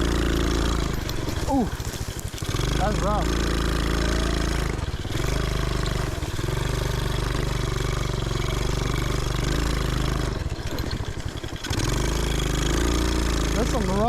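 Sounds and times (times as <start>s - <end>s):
small engine running under throttle: 0.0s - 14.0s.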